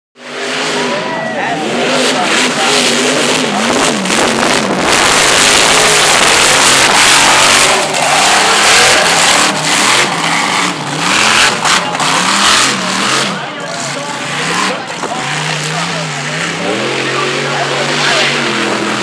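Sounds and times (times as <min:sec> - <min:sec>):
loud rushing noise: 0:00.2 - 0:19.0
truck engine revving hard: 0:00.2 - 0:19.0.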